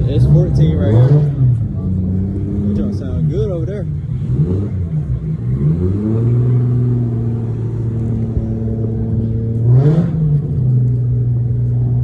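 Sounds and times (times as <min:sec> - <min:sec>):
car engine rev: 0:00.0 - 0:12.0
car engine running: 0:00.0 - 0:12.0.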